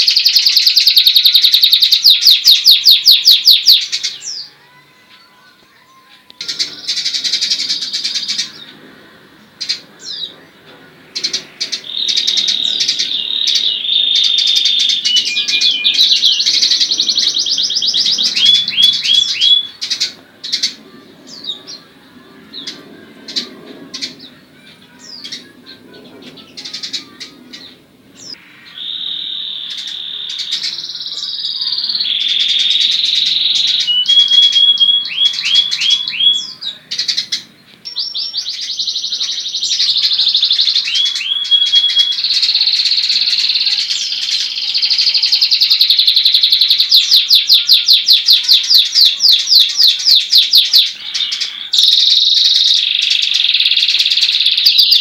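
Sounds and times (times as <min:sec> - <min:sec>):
sparrow chirps: 0:00.0 - 0:04.6, 0:11.2 - 0:55.0
canary singing trills: 0:00.0 - 0:55.0.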